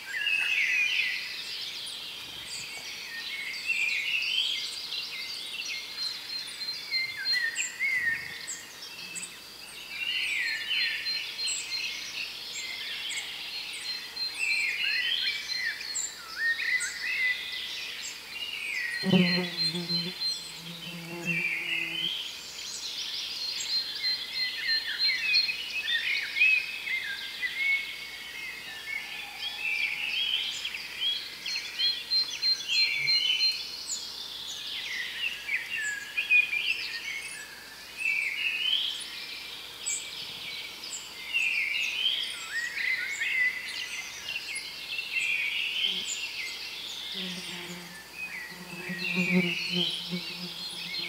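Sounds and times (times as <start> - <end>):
songbirds singing: 0.0 - 51.0.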